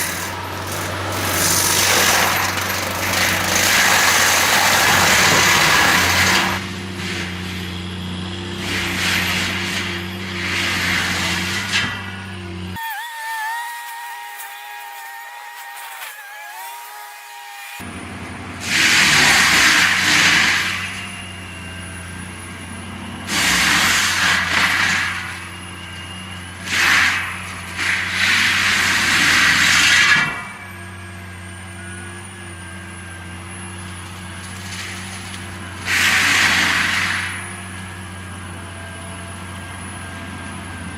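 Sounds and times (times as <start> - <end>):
heavy machinery engine running: 0.0 - 12.8, 17.8 - 40.9.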